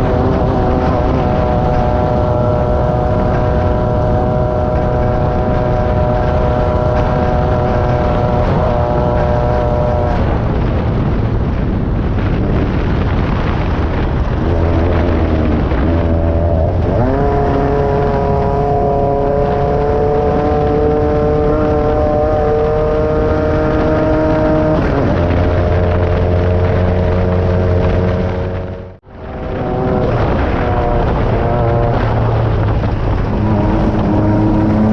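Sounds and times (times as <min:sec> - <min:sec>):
off-road buggy engine running hard: 0:00.0 - 0:34.9
rush of noise: 0:00.0 - 0:34.9.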